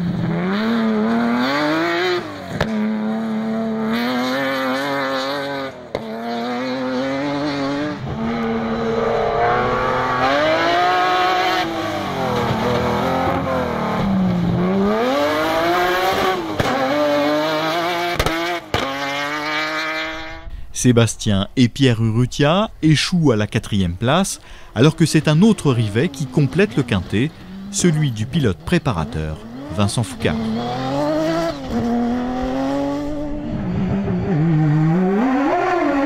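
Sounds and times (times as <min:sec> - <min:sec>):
buggy engines revving: 0:00.0 - 0:20.5, 0:22.3 - 0:36.0.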